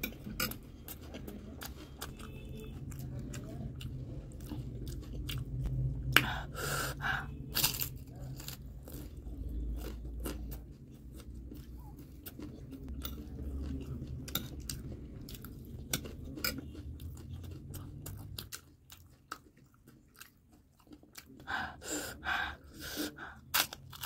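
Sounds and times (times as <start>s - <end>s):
crunching and chewing: 0.0s - 24.0s.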